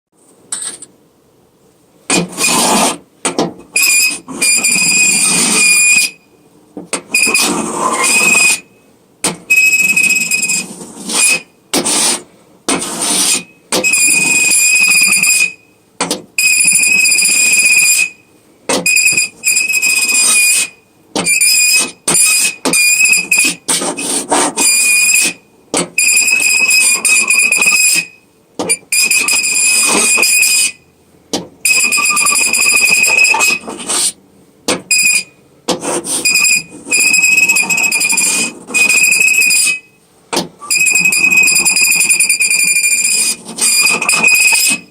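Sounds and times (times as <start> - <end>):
nails screeching on metal: 3.7 - 6.2, 6.9 - 15.6, 16.4 - 30.8, 31.6 - 34.2, 34.9 - 40.0, 40.6 - 44.9.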